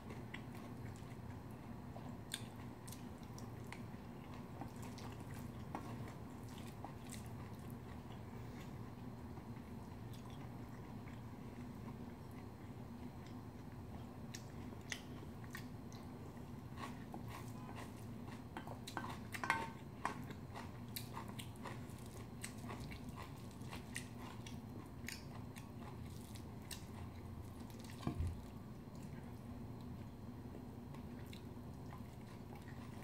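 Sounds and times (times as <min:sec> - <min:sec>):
person chewing food: 0:00.0 - 0:33.0
steady low hum: 0:00.0 - 0:33.0.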